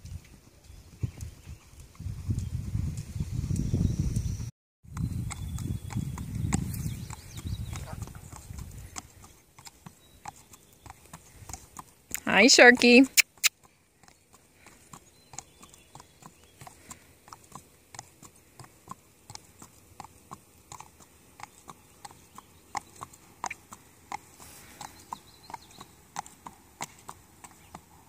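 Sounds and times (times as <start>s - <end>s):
horse hooves on asphalt: 0.0s - 28.0s.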